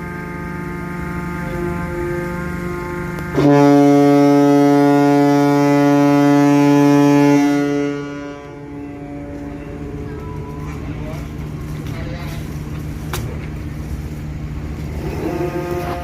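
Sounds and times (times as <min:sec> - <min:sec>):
ship's horn blast: 0:00.0 - 0:12.7, 0:14.3 - 0:16.0
engines humming: 0:00.0 - 0:16.0.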